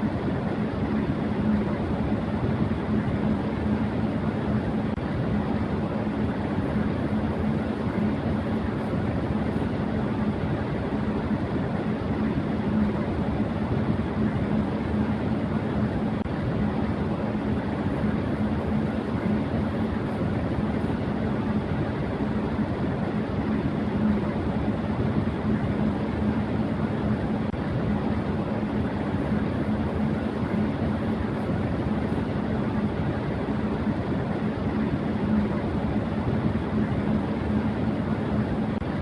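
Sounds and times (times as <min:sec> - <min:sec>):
fan motor hum: 0:00.0 - 0:39.0.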